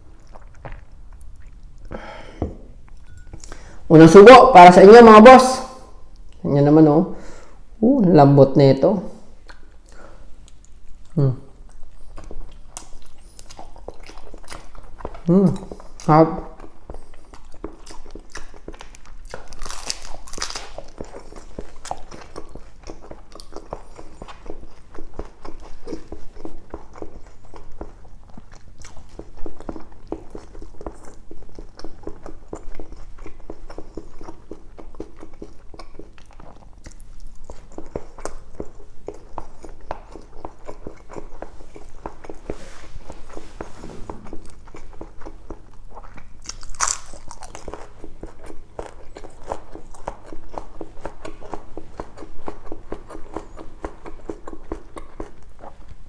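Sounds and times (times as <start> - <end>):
person chewing with wet smacks: 0.0 - 1.9, 6.1 - 6.4, 9.3 - 43.4, 44.1 - 56.0.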